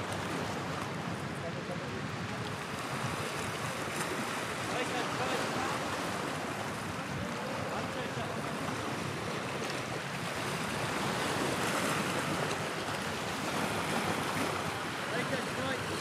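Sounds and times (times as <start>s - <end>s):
sea water washing: 0.0s - 16.0s.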